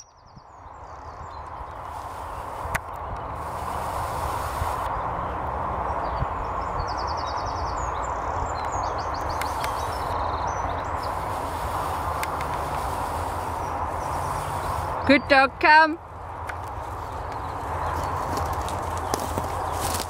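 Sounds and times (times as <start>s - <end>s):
rushing outdoor noise: 0.0s - 20.0s.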